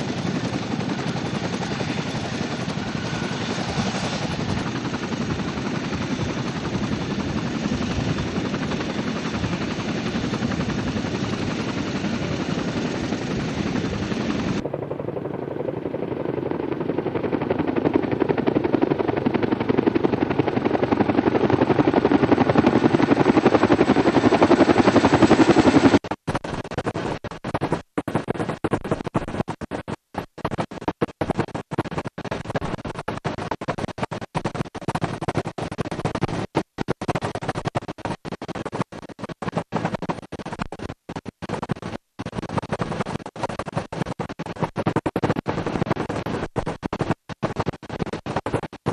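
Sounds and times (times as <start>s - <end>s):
helicopter passing overhead: 0.0s - 48.9s
helicopter rotor and turbine noise: 0.0s - 48.9s.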